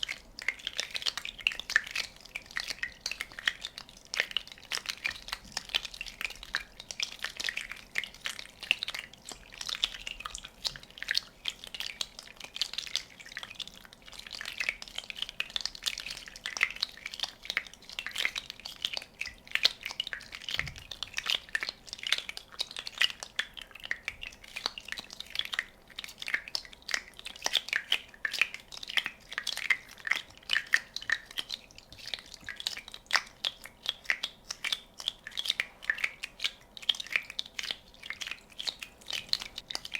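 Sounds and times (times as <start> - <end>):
small bubbles popping: 0.0 - 39.9.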